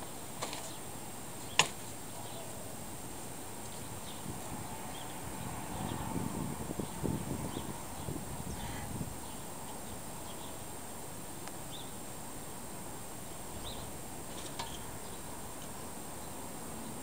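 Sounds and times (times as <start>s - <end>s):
constant high hiss: 0.0s - 17.0s.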